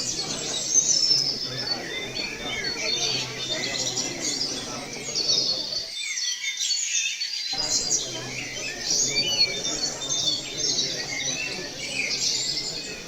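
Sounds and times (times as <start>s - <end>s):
low background noise: 0.0s - 5.9s, 7.6s - 13.0s
songbirds chirping: 0.0s - 13.0s.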